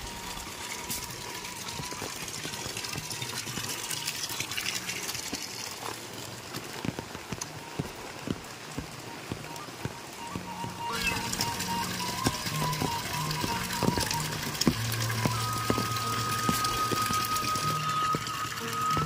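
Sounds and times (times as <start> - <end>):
light rain hissing: 0.0 - 19.0.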